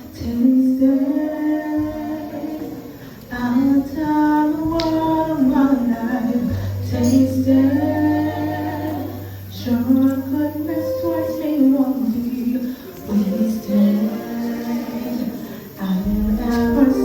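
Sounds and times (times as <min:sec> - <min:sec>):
woman singing gospel: 0:00.0 - 0:17.0.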